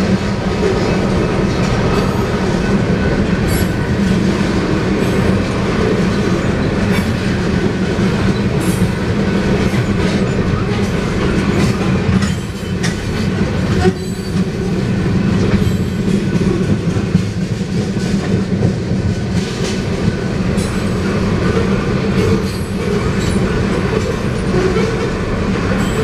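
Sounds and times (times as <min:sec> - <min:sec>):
freight train wheels rumbling on rail: 0:00.0 - 0:26.0
wheels clicking over rail joints: 0:00.0 - 0:26.0.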